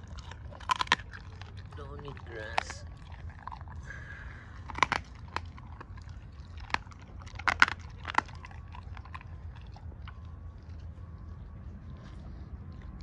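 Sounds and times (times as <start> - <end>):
dog chewing and biting: 0.0 - 13.0
teeth crunching: 0.0 - 13.0.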